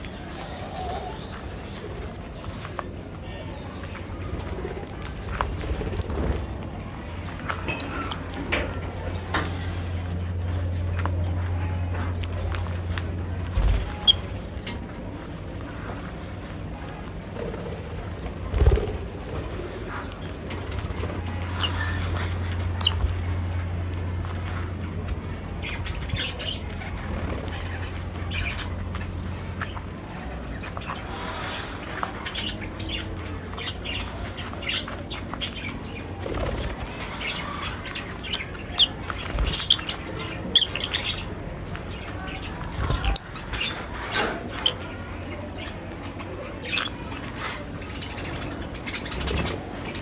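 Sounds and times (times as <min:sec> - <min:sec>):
lovebirds chirping and squawking: 0:00.0 - 0:02.8, 0:03.5 - 0:50.0
low steady hum: 0:00.0 - 0:50.0
wing fluttering: 0:00.1 - 0:50.0.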